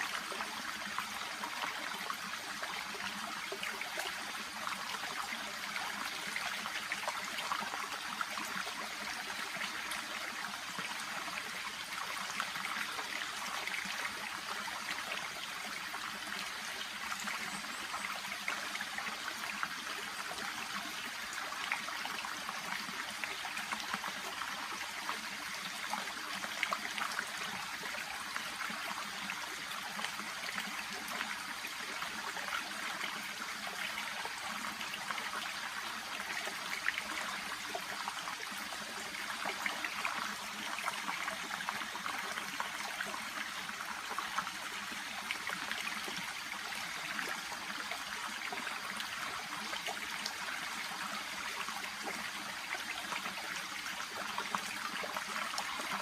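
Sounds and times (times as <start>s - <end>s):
brook babbling over stones: 0.0s - 56.0s.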